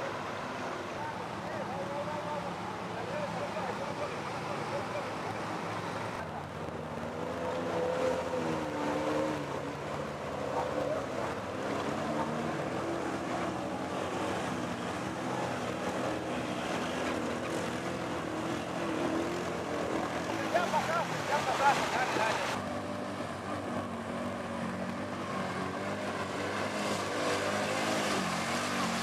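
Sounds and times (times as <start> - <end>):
atv engines revving: 0.0 - 29.0
water splashing: 0.0 - 29.0.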